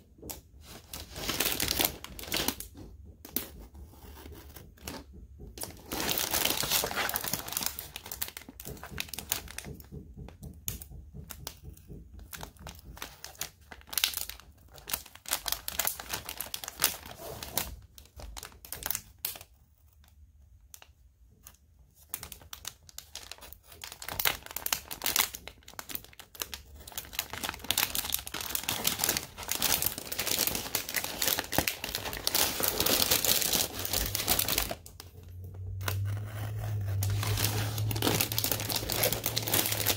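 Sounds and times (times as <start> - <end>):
plastic sheet crinkling: 0.2 - 10.0, 11.1 - 20.0, 22.0 - 39.9.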